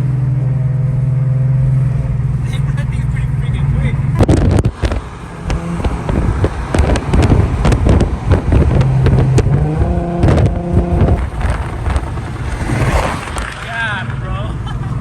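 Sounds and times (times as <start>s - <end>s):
car exhaust drone: 0.0s - 15.0s
exhaust crackles: 0.0s - 15.0s.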